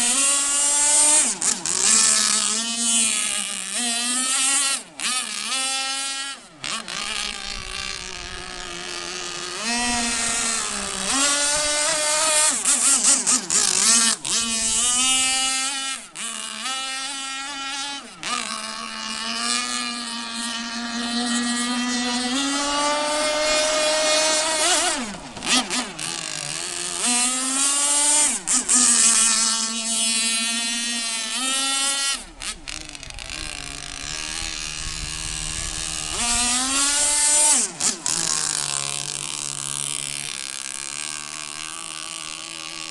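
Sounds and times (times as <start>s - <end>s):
two-stroke boat engine revving: 0.0s - 42.9s.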